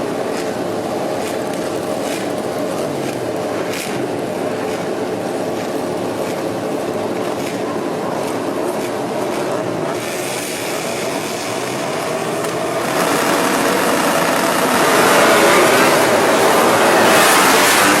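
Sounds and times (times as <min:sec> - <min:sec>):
racing motorcycle engine: 0:00.0 - 0:18.0.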